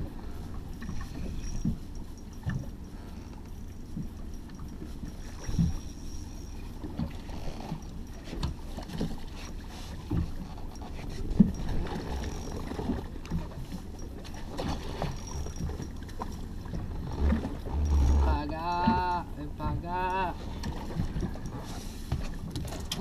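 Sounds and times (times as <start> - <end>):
steady low rumble: 0.0 - 22.7
knocks and thumps from boat: 0.0 - 23.0
water slapping against hull: 0.0 - 23.0.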